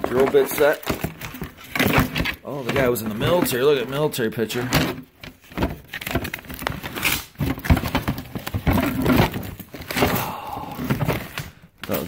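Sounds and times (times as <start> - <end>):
small knocks and scrapes: 0.0 - 10.1
papers and cloth rustling: 0.0 - 12.0.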